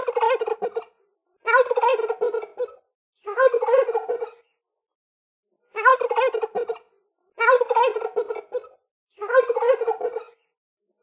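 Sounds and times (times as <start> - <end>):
turkey gobbling: 0.0 - 4.5, 5.8 - 10.5.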